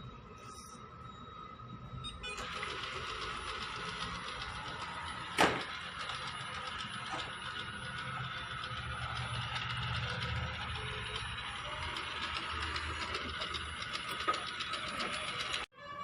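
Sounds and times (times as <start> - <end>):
robot vacuum cleaner whirring: 0.5 - 16.0.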